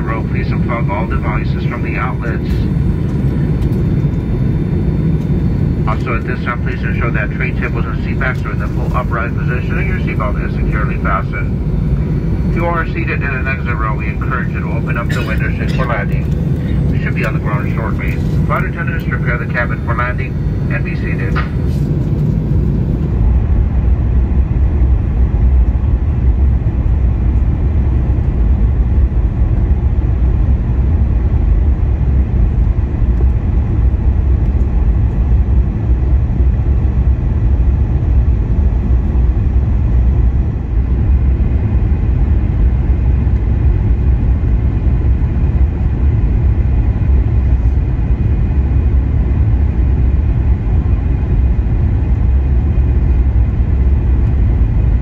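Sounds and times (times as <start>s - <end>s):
airliner cabin engine and airflow noise: 0.0s - 55.0s.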